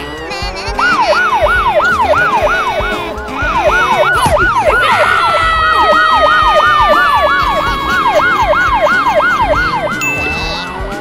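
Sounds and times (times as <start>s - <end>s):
siren wailing: 0.7s - 11.0s
long falling tone: 0.8s - 11.0s.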